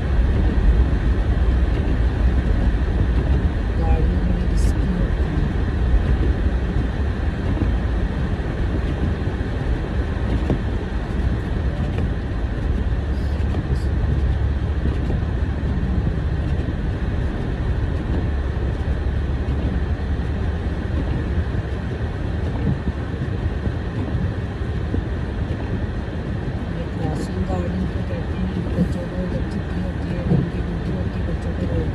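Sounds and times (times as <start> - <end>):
car engine and tyre noise: 0.0 - 31.9.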